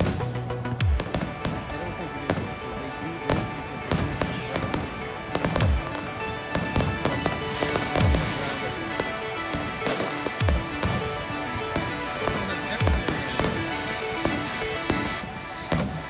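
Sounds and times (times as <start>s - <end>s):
fireworks bursting: 0.0s - 16.0s
music playing: 0.0s - 16.0s.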